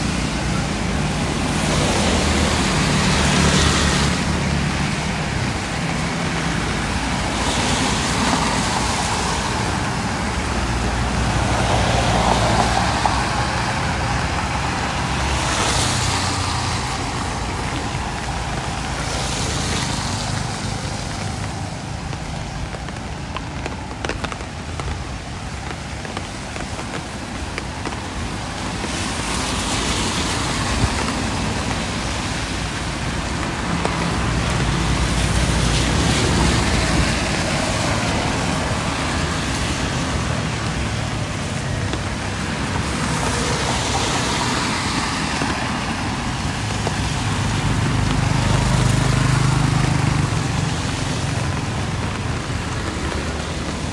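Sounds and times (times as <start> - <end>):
tyres hissing on wet road: 0.0 - 53.9.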